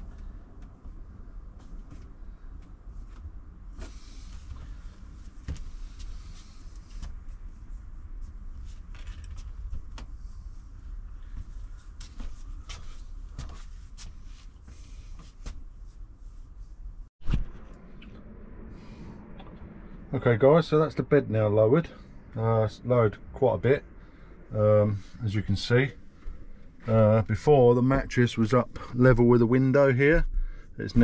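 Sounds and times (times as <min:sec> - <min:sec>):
low steady rumble: 0:00.0 - 0:31.0.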